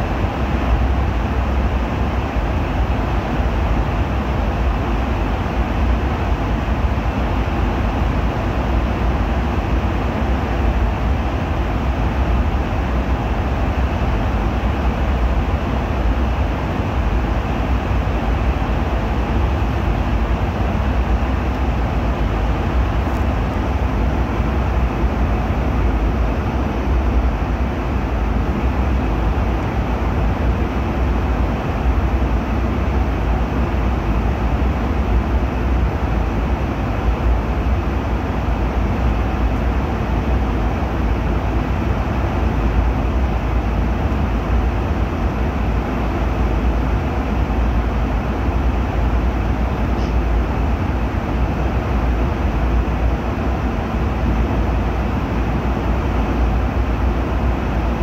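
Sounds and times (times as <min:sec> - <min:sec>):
airliner cabin engine and airflow rush: 0:00.0 - 0:58.0.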